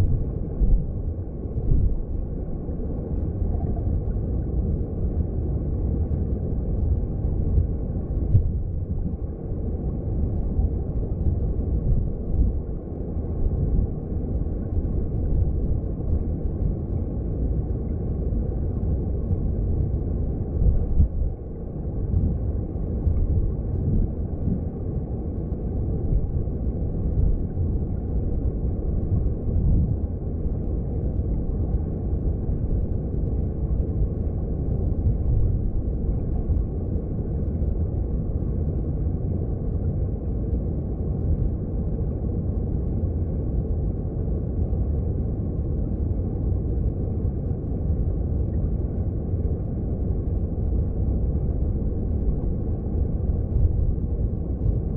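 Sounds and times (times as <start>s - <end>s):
underwater stream rumble: 0.0s - 54.9s.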